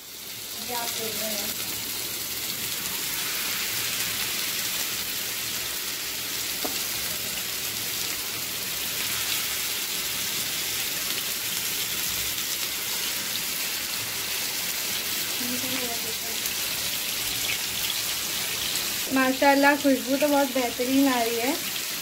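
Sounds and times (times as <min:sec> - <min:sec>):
oil sizzling in frying pan: 0:00.0 - 0:22.0.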